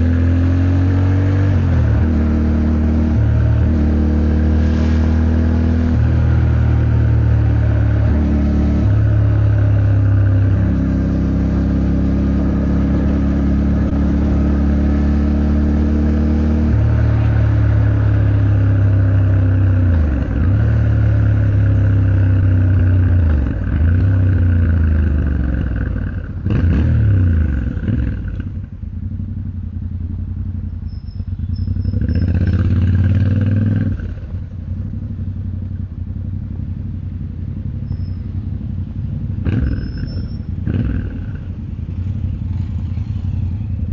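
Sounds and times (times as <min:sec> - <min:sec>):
motorcycle engine shifting gears: 0:00.0 - 0:43.9.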